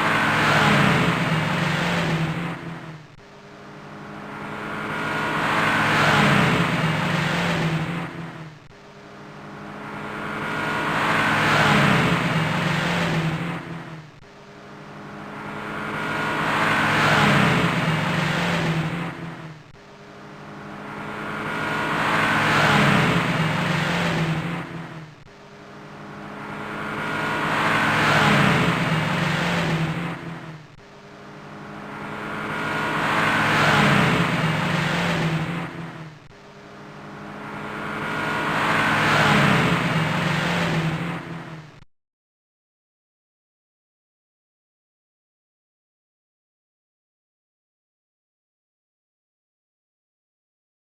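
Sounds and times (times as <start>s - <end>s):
pitched engine-like tone: 0.0s - 41.9s.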